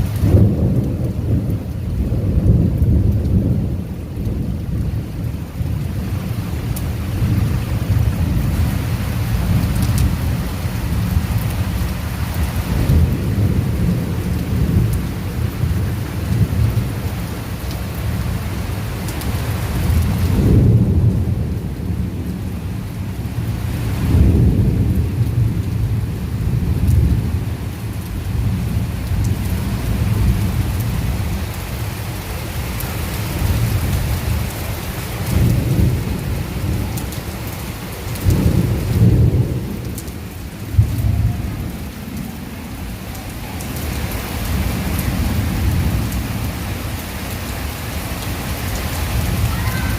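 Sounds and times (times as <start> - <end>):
heavy rain pouring: 0.0 - 49.9
thunder rumbling: 0.0 - 49.9.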